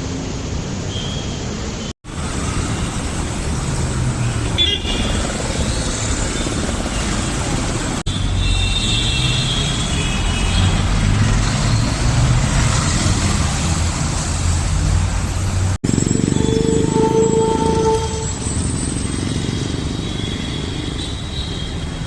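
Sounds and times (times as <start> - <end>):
city traffic with vehicles passing: 0.0 - 22.0.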